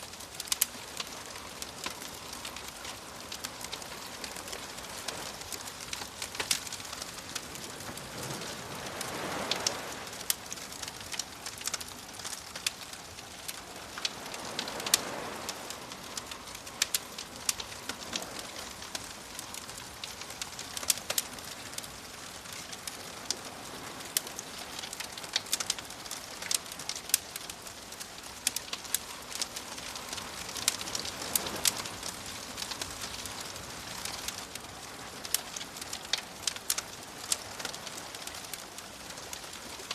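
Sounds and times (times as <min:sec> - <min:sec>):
campfire crackling and popping: 0:00.0 - 0:39.9
soft ocean waves: 0:00.0 - 0:39.9.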